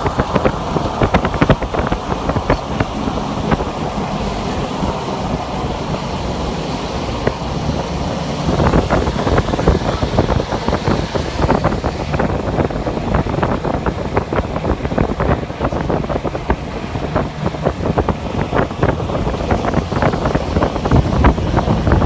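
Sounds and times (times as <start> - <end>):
road and engine noise: 0.0 - 22.0.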